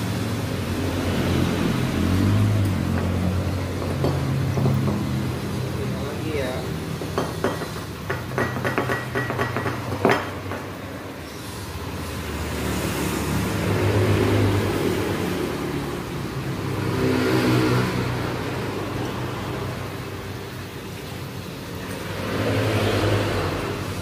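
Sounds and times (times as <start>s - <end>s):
motor vehicles passing by: 0.0s - 24.0s.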